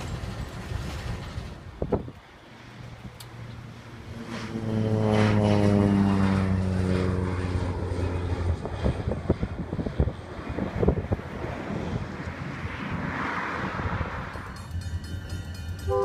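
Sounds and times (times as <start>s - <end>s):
wind buffeting microphone: 0.0s - 4.6s, 5.6s - 15.8s
propeller airplane passing overhead: 0.0s - 16.0s.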